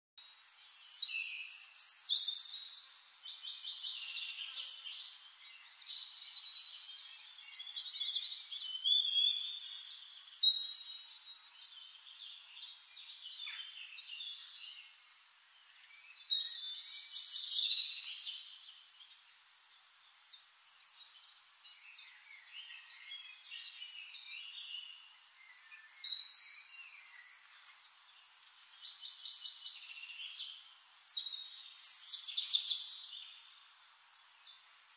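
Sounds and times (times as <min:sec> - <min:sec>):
songbirds singing: 0:00.2 - 0:34.9.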